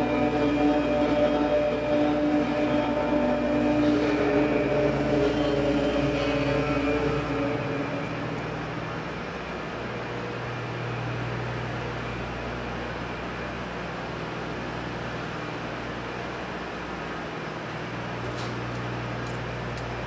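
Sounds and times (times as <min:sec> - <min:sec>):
constant low hum: 0:00.0 - 0:20.0
power plant machinery roar: 0:00.0 - 0:20.0.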